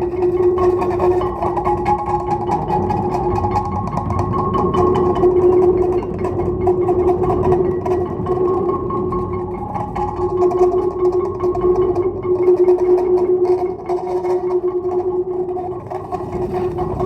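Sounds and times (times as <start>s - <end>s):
fast rattling: 0.0s - 17.0s
stone plates ringing: 0.0s - 17.0s.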